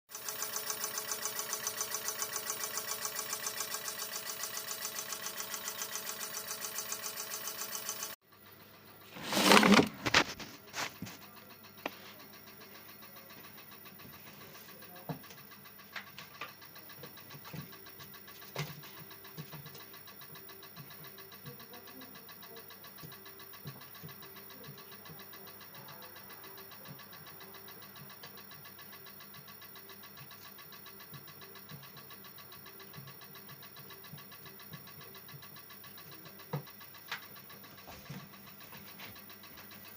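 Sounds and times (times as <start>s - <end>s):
car engine idling with ticking knock: 0.1s - 9.1s, 10.0s - 39.9s
sharp engine clicks: 0.1s - 39.9s.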